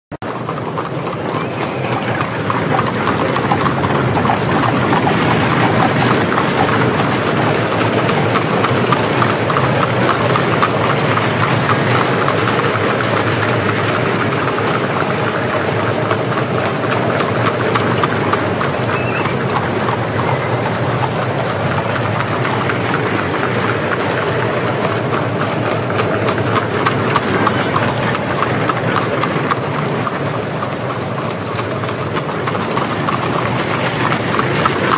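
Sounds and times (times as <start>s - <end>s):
horse hooves clip-clopping: 0.2s - 34.9s
horse-drawn carriages passing: 0.2s - 34.9s.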